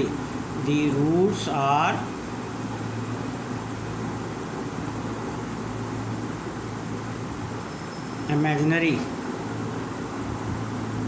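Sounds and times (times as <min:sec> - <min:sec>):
steady background hum and hiss: 0:00.0 - 0:11.0.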